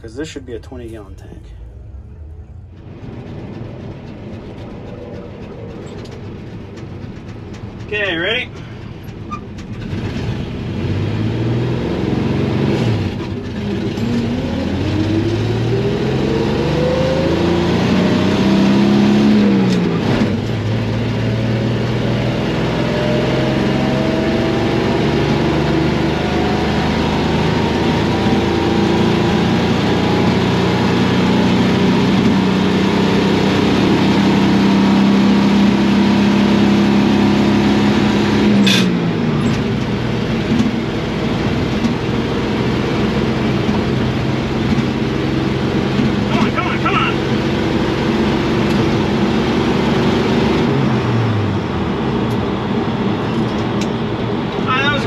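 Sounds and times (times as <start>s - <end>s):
engine accelerating at full throttle: 0.0s - 55.0s.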